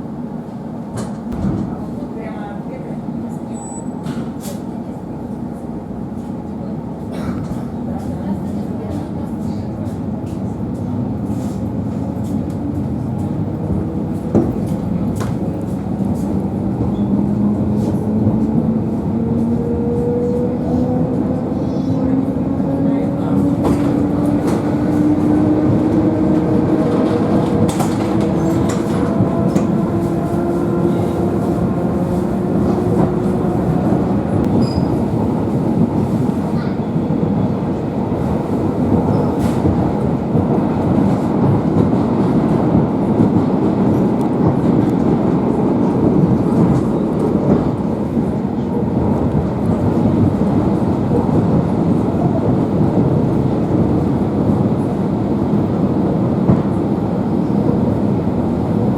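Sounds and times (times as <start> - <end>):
train wheels rumbling on rails: 0.0 - 58.9
train whine: 10.2 - 58.9.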